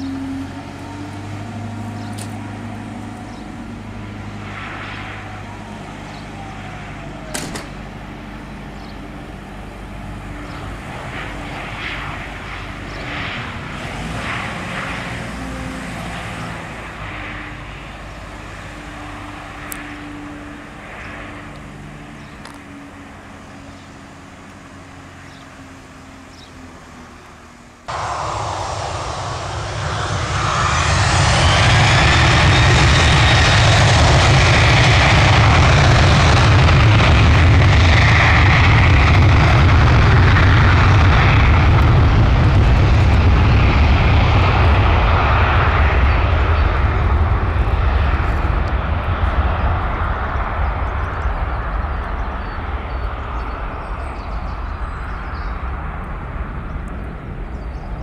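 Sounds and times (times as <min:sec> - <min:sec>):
jet engine rumble: 0:00.0 - 0:58.0
jet engines spooling up: 0:00.0 - 0:58.0.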